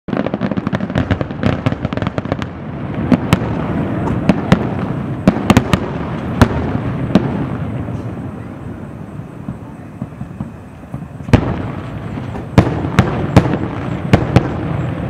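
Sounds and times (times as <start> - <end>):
fireworks crackling pops: 0.1 - 15.0
fireworks shells bursting bangs: 0.1 - 15.0
continuous rumble: 2.8 - 15.0.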